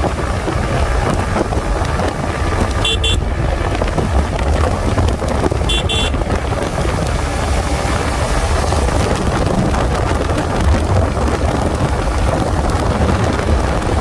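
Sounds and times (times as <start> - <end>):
motorcycle rumble: 0.0 - 14.0
wind buffeting microphone: 0.0 - 14.0.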